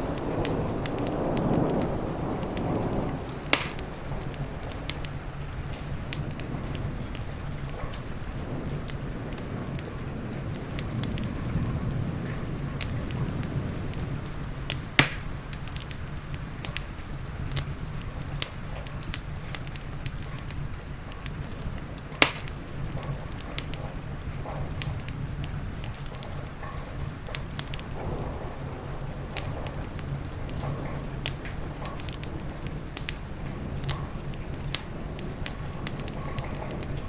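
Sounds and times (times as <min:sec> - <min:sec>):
loud fire pops: 0:00.0 - 0:37.0
steady rain: 0:00.0 - 0:37.0
wood fire crackling: 0:00.0 - 0:37.0.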